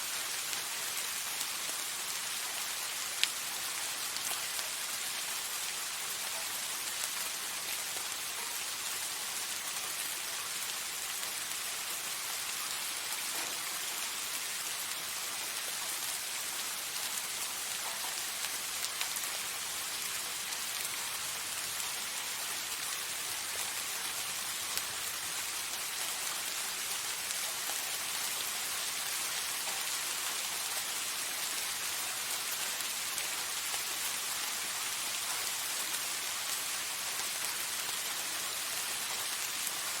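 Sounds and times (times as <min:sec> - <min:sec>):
soft steady rain: 0:00.0 - 0:40.0.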